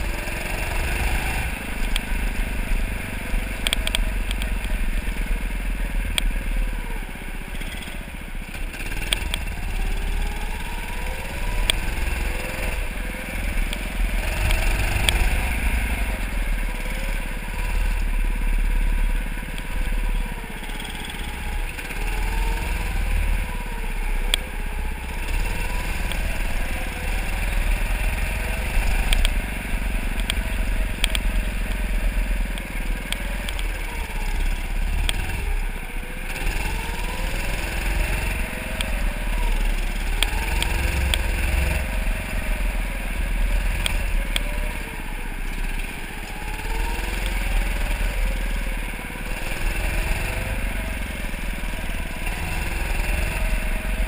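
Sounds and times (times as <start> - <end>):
go-kart motor running: 0.0 - 54.0
low rumble of moving kart: 0.0 - 54.0.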